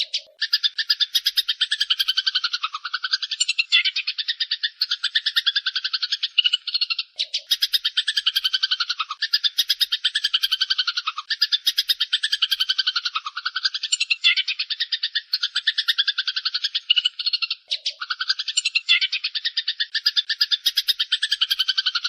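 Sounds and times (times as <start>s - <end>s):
sparrows chattering: 0.0s - 22.0s.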